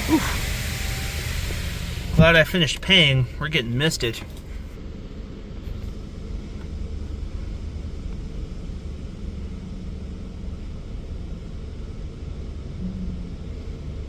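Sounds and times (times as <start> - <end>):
car wash spray and machinery: 0.0 - 14.0
faint steady hum: 0.0 - 14.0.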